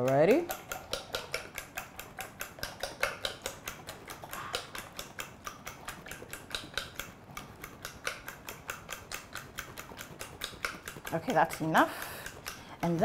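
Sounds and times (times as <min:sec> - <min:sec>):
fork beating batter in bowl: 0:00.0 - 0:13.0.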